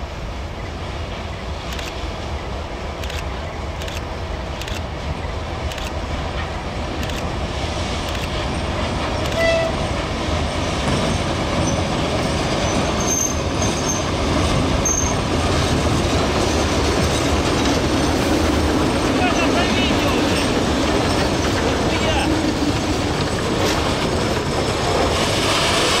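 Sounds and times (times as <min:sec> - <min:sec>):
diesel locomotive engine running: 0:00.0 - 0:26.0
train wheels rolling on rails: 0:00.0 - 0:26.0.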